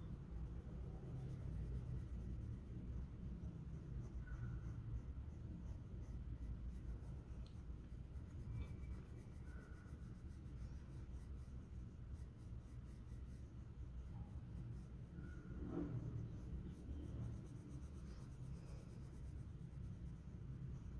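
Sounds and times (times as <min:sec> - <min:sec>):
colored pencil scratching on paper: 0:00.0 - 0:20.9.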